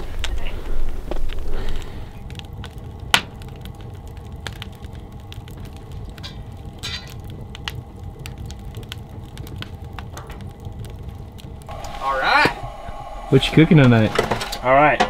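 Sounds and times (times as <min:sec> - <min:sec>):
sharp pops of fire: 0:00.0 - 0:13.0
low steady rumble: 0:00.0 - 0:15.0
wood fire crackling in stove: 0:00.0 - 0:15.0.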